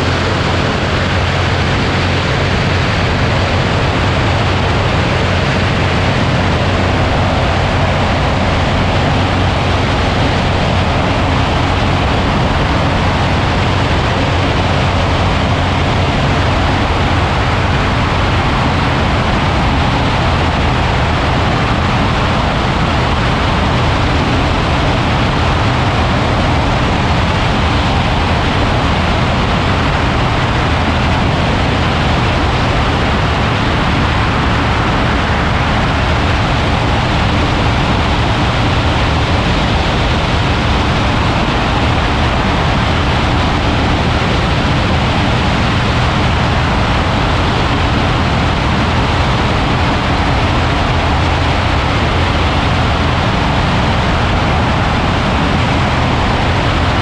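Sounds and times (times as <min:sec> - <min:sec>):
aircraft engine droning: 0:00.0 - 0:57.0
wind rushing over microphone: 0:00.0 - 0:57.0.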